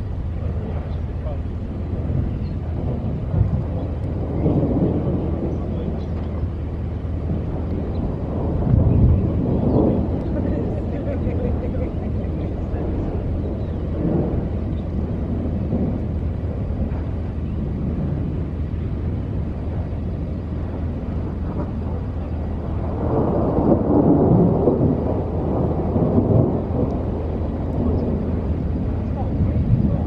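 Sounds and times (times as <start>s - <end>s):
low background rumble: 0.0s - 30.0s
thunder rumbling: 0.0s - 30.0s.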